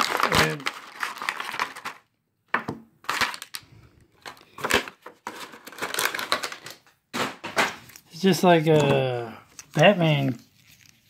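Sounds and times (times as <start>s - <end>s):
cardboard and plastic crinkling: 0.0s - 2.1s, 3.0s - 6.9s, 7.6s - 11.0s.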